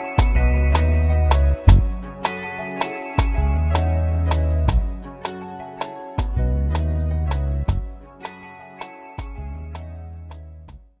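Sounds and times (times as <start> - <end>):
music with bass and steady beat: 0.0 - 11.0.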